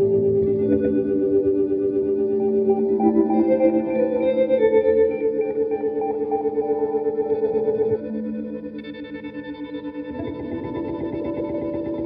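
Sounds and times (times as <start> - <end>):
ambient guitar and electronic music: 0.0 - 12.0.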